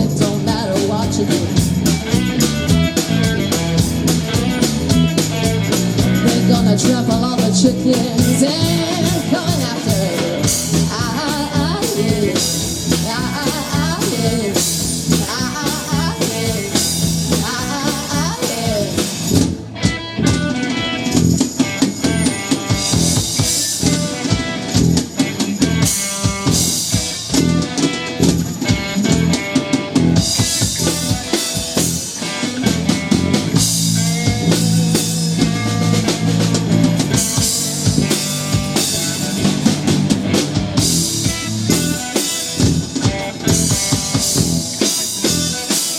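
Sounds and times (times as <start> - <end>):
live band playing: 0.0 - 45.9.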